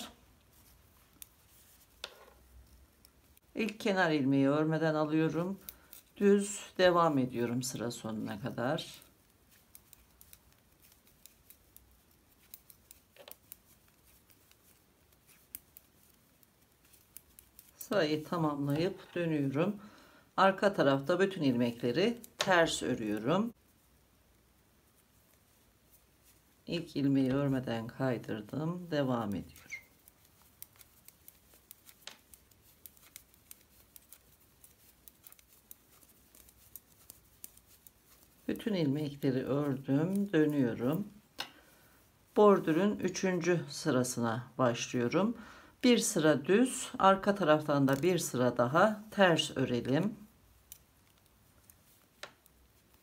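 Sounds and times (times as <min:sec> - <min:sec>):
knitting needles clicking: 0:00.0 - 0:04.0, 0:04.9 - 0:19.6, 0:20.6 - 0:23.6, 0:24.9 - 0:41.7, 0:47.2 - 0:53.0.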